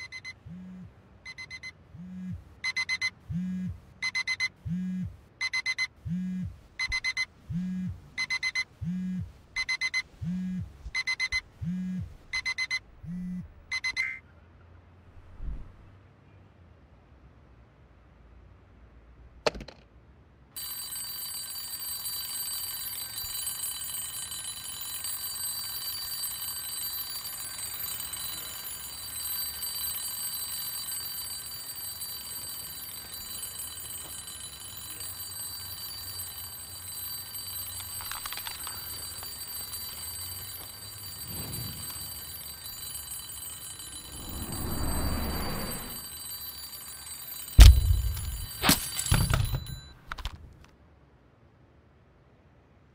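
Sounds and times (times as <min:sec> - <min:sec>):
electronic alarm ringing: 0:00.0 - 0:00.6, 0:01.3 - 0:14.2, 0:20.6 - 0:50.3.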